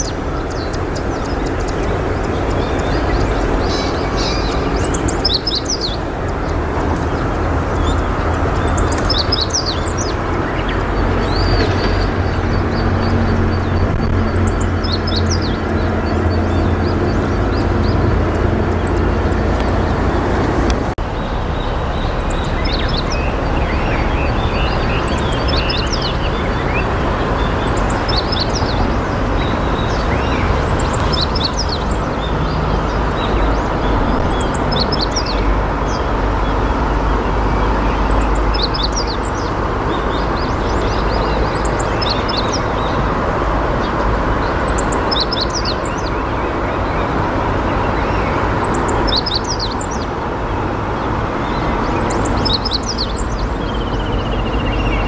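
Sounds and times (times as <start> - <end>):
river water rushing: 0.0 - 55.0
small birds chirping: 0.0 - 55.0.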